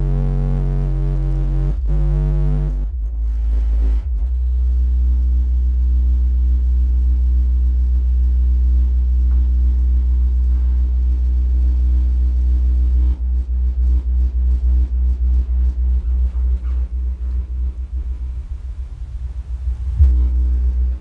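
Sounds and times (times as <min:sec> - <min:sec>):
subwoofers playing deep bass: 0:00.0 - 0:21.0.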